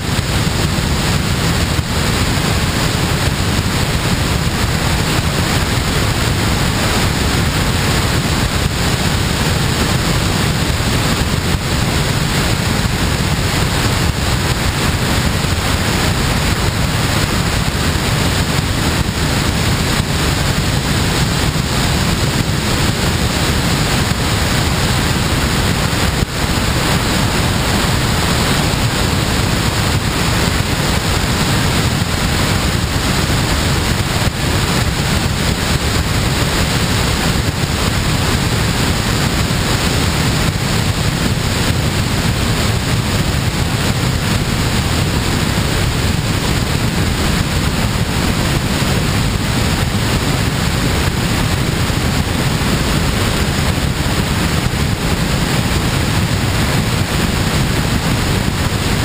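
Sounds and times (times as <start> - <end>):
wind noise on microphone: 0.0 - 59.0.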